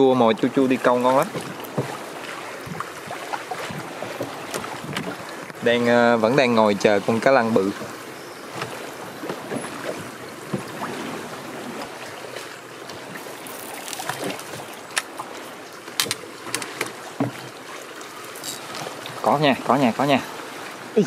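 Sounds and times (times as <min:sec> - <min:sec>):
river current rushing: 0:00.0 - 0:21.0.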